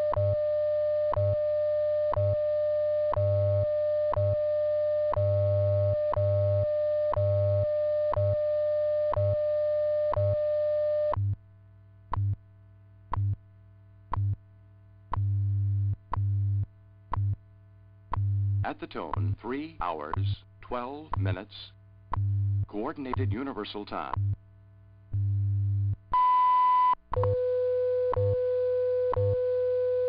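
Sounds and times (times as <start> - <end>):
low pulsing time code hum: 0.0 - 30.0.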